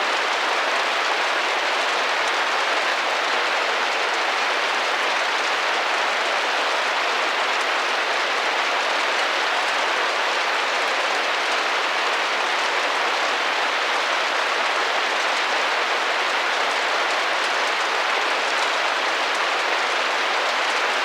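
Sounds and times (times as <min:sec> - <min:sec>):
rain on a window pane: 0:00.0 - 0:21.0.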